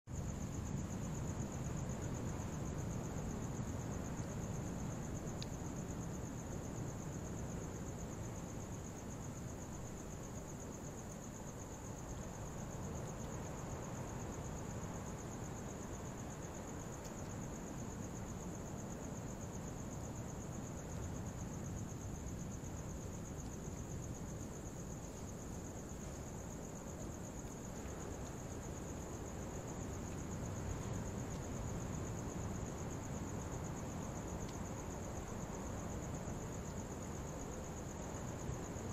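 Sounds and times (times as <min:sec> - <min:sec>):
crickets trilling: 0:00.1 - 0:38.9.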